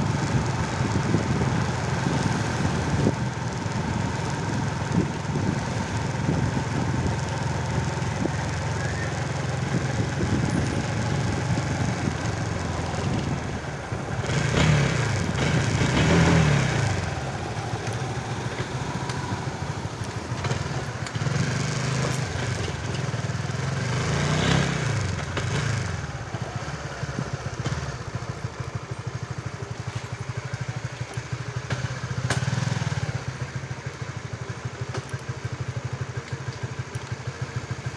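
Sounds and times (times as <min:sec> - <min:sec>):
small motorcycle engine revving: 0:00.0 - 0:33.7.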